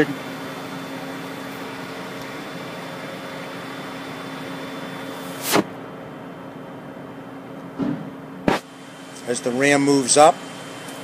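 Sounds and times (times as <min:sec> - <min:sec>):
machine hum with tones: 0:00.0 - 0:11.0.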